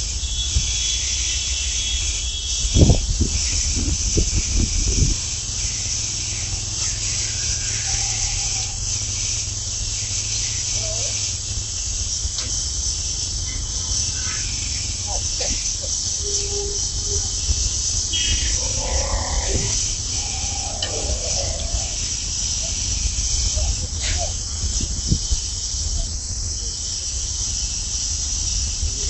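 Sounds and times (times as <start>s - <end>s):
torch flame hissing and rumbling: 0.0s - 29.0s.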